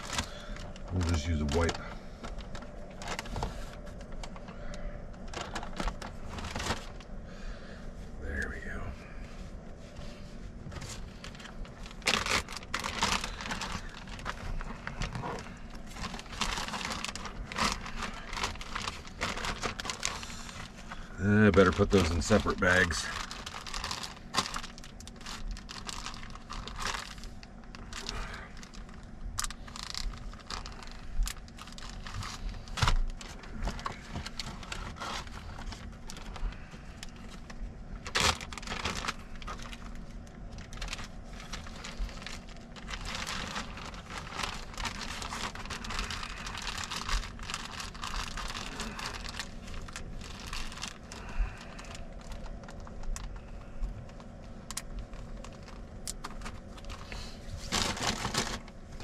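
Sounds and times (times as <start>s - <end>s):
plastic bags crinkling: 0.0s - 8.1s, 9.3s - 59.0s.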